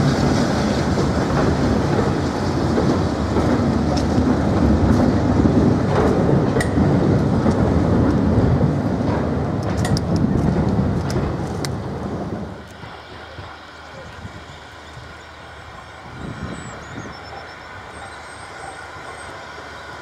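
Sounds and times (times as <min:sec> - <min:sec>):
train wheels rumbling on rails: 0:00.0 - 0:20.0
wheels clicking over rail joints: 0:00.0 - 0:20.0.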